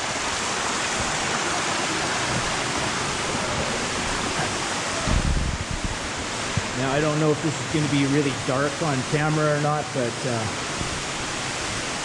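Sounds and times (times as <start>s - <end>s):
creek rushing: 0.0s - 12.0s.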